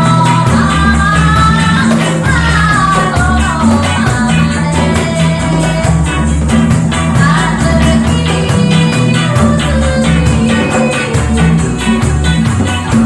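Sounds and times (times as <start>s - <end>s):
band music with singing: 0.0s - 13.0s.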